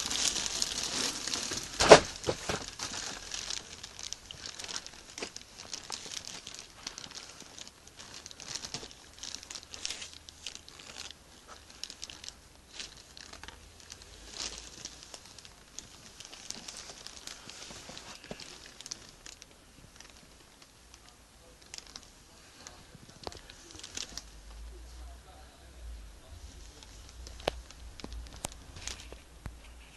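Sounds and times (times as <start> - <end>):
rustling and crinkling: 0.0 - 25.4, 26.2 - 29.9.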